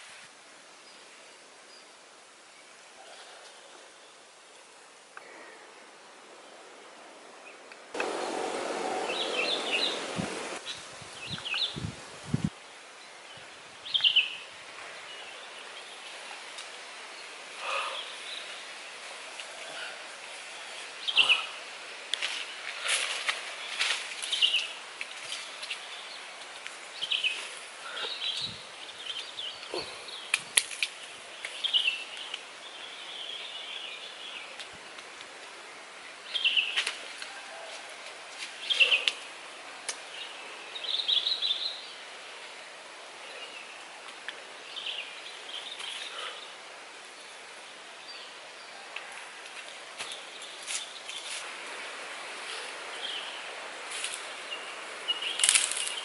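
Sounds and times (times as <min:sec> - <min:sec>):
steady outdoor hiss: 0:00.0 - 0:56.0
wild birds chirping: 0:00.7 - 0:11.9, 0:12.6 - 0:56.0.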